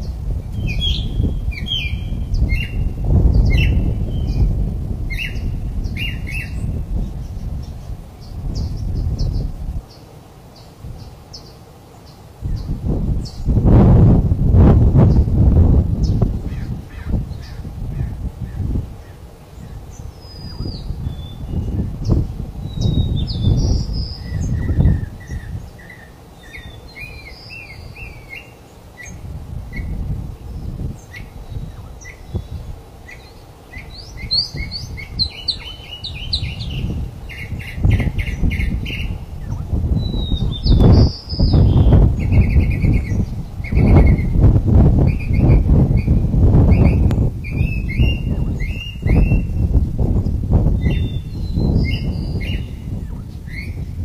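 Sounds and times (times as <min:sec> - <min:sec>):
birds chirping and trilling: 0:00.0 - 0:13.6, 0:15.0 - 0:54.0.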